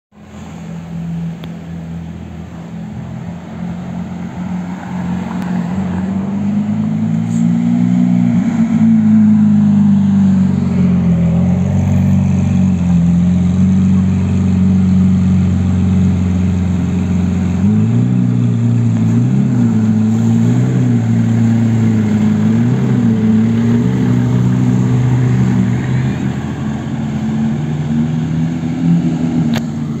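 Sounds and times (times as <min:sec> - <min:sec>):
off-road car engine driving by: 0:00.2 - 0:30.0.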